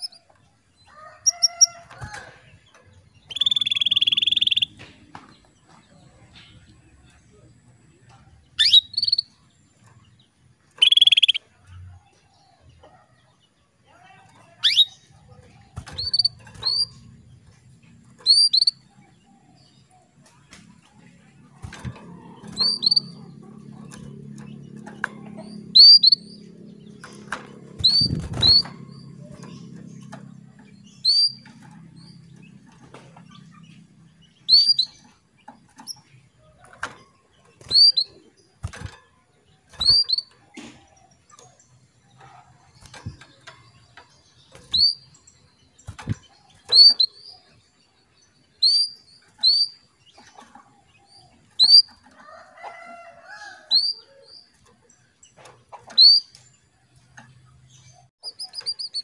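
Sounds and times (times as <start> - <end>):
canary chirps: 0.0 - 6.1, 8.2 - 20.3, 21.1 - 38.9, 39.6 - 59.0.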